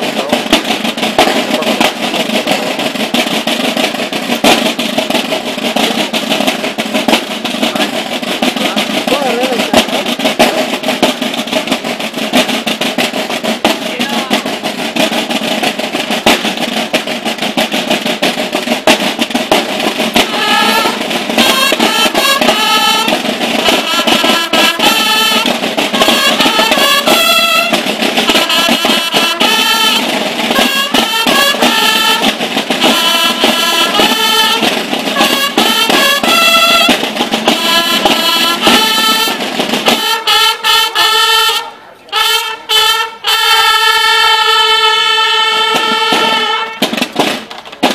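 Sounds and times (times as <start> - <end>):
brass horns playing melody: 0.0 - 47.1
snare drum rolls: 0.0 - 47.9.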